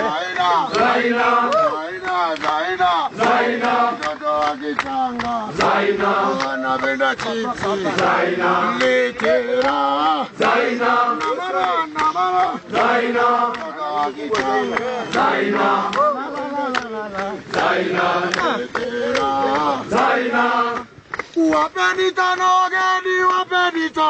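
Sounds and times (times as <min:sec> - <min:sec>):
group chanting song: 0:00.0 - 0:21.2.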